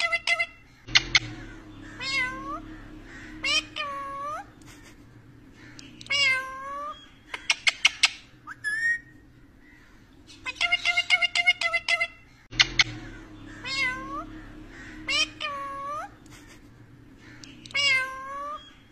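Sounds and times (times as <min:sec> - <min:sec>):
parakeet calling and chirping: 0:00.0 - 0:18.9.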